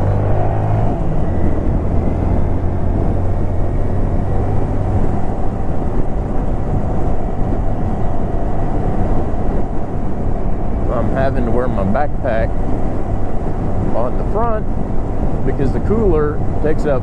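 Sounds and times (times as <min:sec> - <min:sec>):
motorcycle engine cruising: 0:00.0 - 0:16.9
wind noise on microphone: 0:00.0 - 0:17.0.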